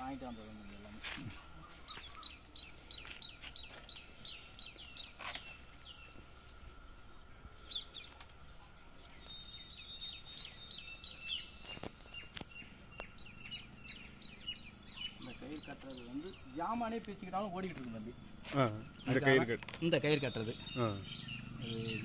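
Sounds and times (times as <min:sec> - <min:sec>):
small bird chirping: 0:00.0 - 0:06.5, 0:09.0 - 0:22.0.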